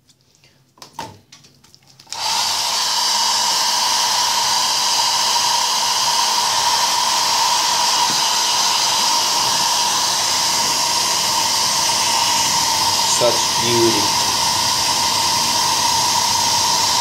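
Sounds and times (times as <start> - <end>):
hair dryer running: 2.1 - 17.0.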